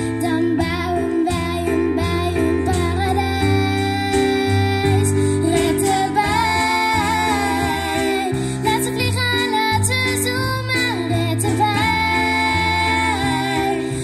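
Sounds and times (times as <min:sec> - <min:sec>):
song with singing voice: 0:00.0 - 0:14.0.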